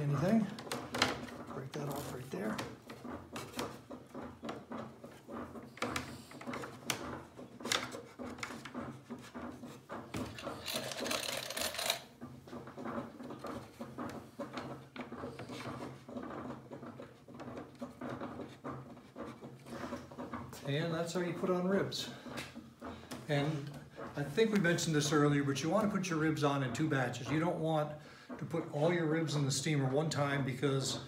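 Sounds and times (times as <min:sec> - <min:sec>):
clicks and rattles of wood: 0:00.0 - 0:31.0.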